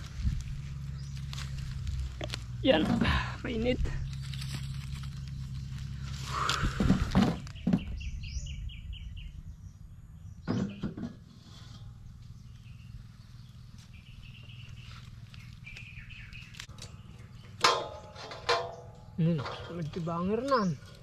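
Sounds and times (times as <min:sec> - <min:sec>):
birds chirping: 0:00.0 - 0:21.0
low steady rumble: 0:00.0 - 0:21.0.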